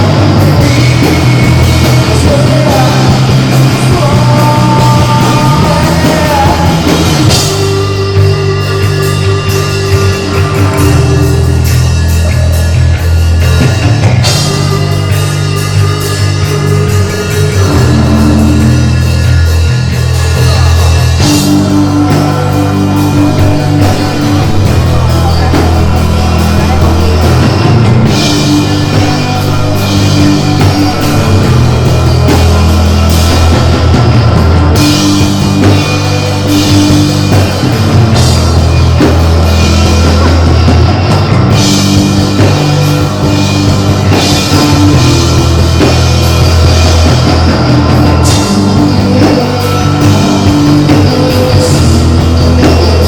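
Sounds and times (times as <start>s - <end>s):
bass guitar held notes: 0.0s - 53.0s
live heavy rock band: 0.0s - 53.0s.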